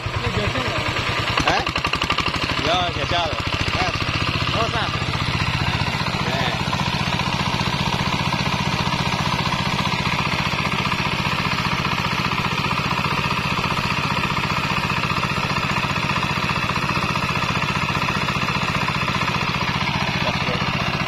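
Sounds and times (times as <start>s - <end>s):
diesel engine chugging: 0.0s - 21.0s.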